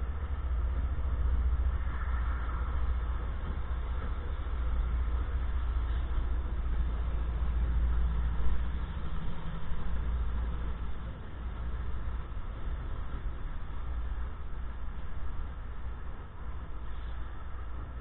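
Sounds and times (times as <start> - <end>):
diesel locomotive rumbling: 0.0 - 18.0.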